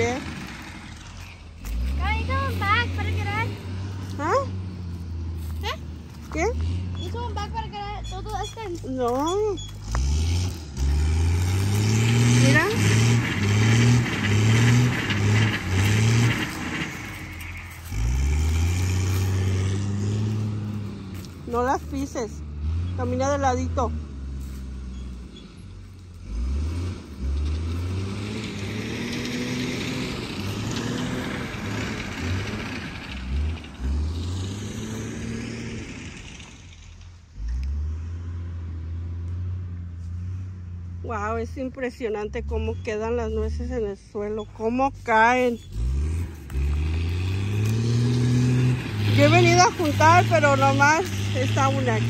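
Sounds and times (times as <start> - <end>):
tree shaker engine surging: 0.0 - 24.8, 25.8 - 37.5, 44.6 - 52.0.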